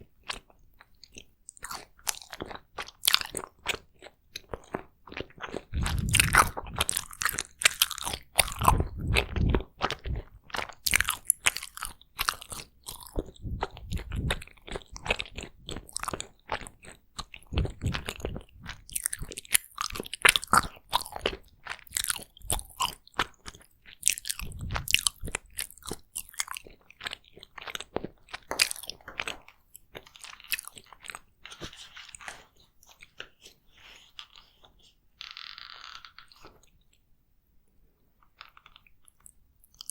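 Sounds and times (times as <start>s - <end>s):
wet chewing and mouth clicks: 0.0s - 34.6s, 38.2s - 39.9s.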